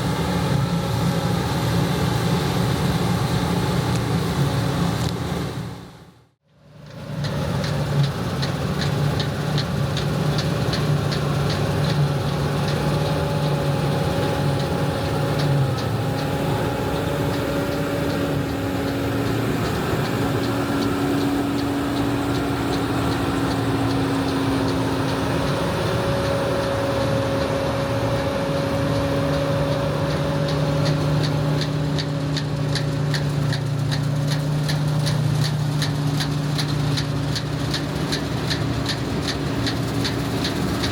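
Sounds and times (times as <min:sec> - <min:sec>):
diesel machinery engine hum: 0:00.0 - 0:40.9.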